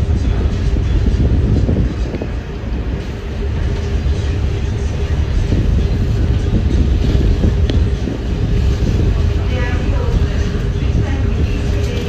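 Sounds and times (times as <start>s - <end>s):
ferry engine rumble: 0.0s - 12.0s
water noise: 0.0s - 12.0s
wind: 0.0s - 12.0s.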